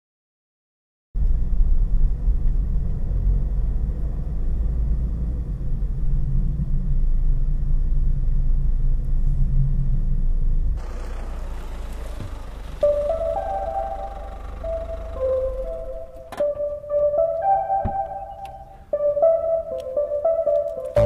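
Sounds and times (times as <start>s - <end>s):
car engine and road noise: 1.2s - 21.0s.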